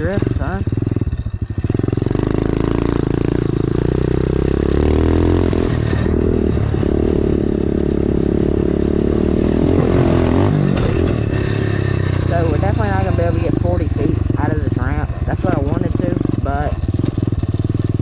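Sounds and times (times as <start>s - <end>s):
dirt bike engine under throttle: 0.0s - 18.0s.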